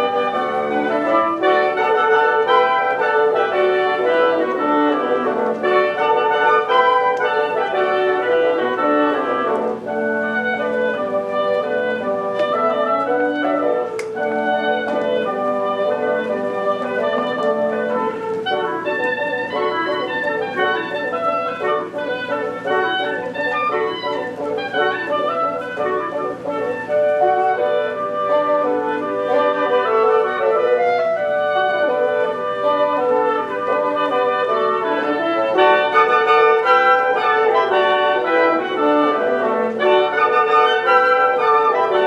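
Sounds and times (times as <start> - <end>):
orchestra playing classical music: 0.0 - 42.0.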